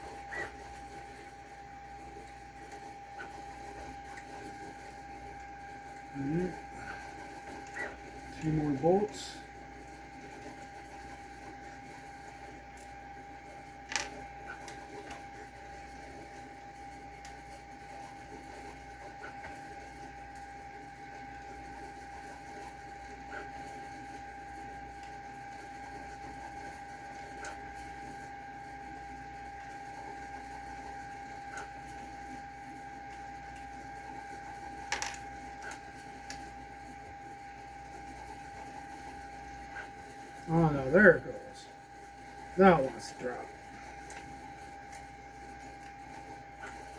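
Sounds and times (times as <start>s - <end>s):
faint steady whine: 0.0s - 46.9s.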